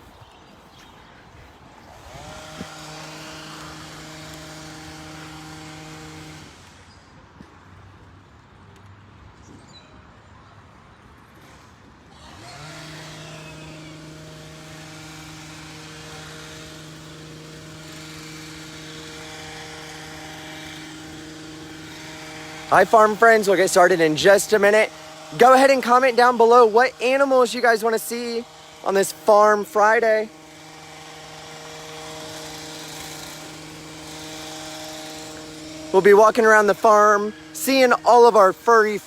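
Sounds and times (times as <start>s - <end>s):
motor whining and humming: 0.1s - 7.0s, 11.4s - 39.0s.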